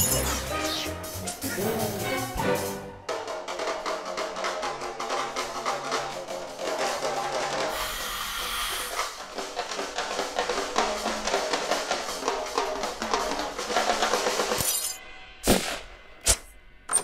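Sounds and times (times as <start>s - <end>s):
cartoon music with drum beat: 0.0s - 8.1s, 8.8s - 14.6s.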